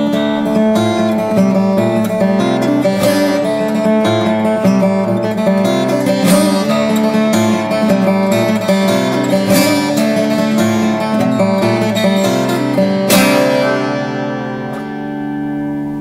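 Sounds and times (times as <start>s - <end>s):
guitar chord ringing: 0.0s - 16.0s
plucked acoustic guitar notes: 0.0s - 16.0s.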